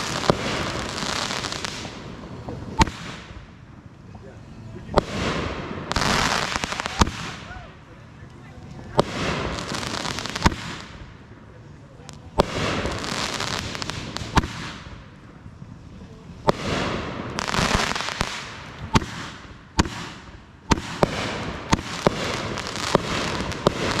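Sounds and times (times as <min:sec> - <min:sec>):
fireworks bangs: 0:00.0 - 0:07.8, 0:08.8 - 0:24.0
fireworks crackling hiss: 0:00.0 - 0:24.0.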